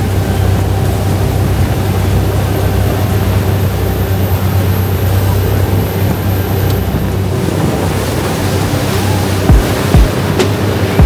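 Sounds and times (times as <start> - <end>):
churning wake rushing: 0.0 - 11.0
speedboat engine droning: 0.0 - 11.0
wind: 0.0 - 11.0.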